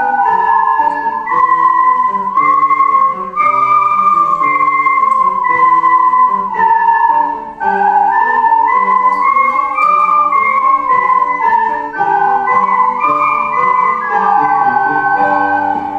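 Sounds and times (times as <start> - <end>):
low accompaniment: 0.0 - 15.9
ocarina melody: 0.0 - 15.9.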